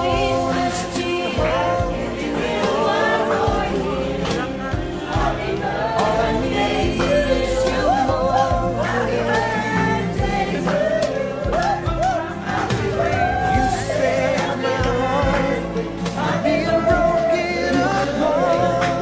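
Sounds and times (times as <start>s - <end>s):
group of people singing: 0.0s - 19.0s.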